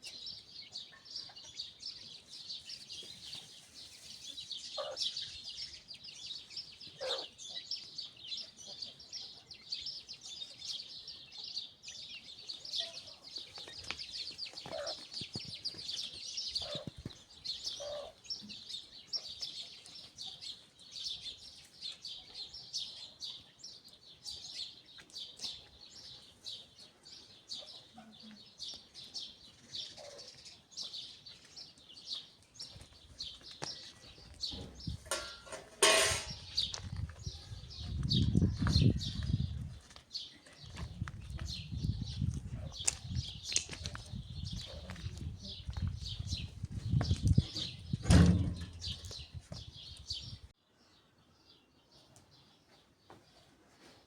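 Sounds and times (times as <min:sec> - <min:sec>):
small birds chirping: 0:00.0 - 0:35.5, 0:36.3 - 0:54.0.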